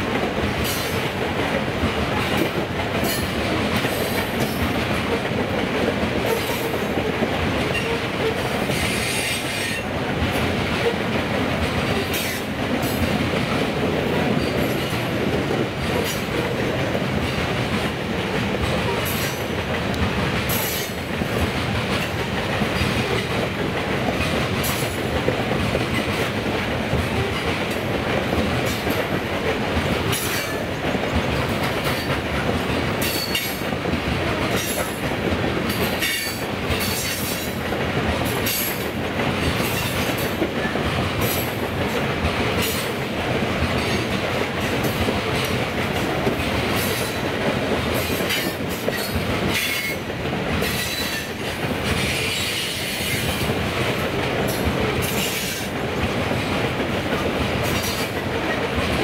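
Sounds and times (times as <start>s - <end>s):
train wheels rumbling on rails: 0.0s - 59.0s
wheels clicking over rail joints: 0.0s - 59.0s.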